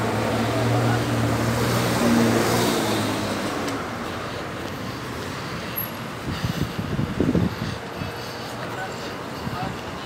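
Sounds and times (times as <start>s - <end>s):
street noise: 0.0s - 10.0s
vehicle engine humming: 0.0s - 10.0s.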